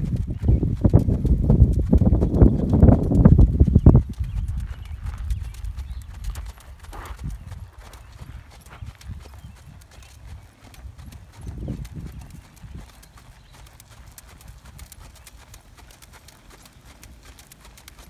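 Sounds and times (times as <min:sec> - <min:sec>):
horse hooves trotting on gravel: 0:00.0 - 0:18.0.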